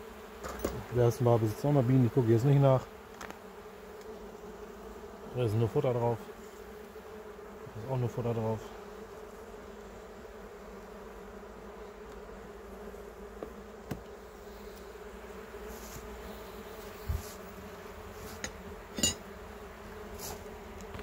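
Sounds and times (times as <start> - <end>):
bees humming: 0.0 - 21.0.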